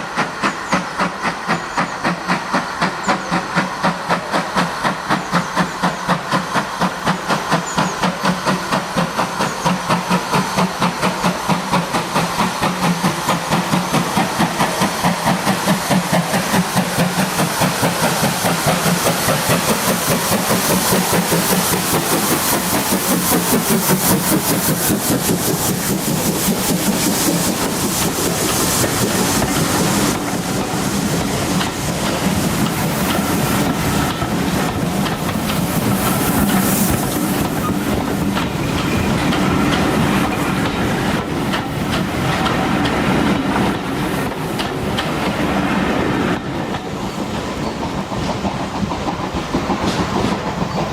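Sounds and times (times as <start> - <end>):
steam locomotive exhaust beats: 0.0 - 50.9.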